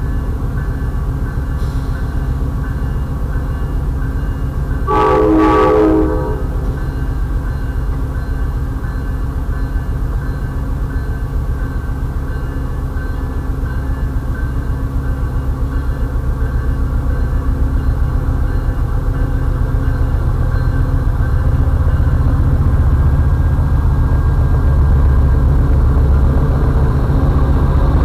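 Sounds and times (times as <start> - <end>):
diesel locomotive engine rumble: 0.0 - 28.0.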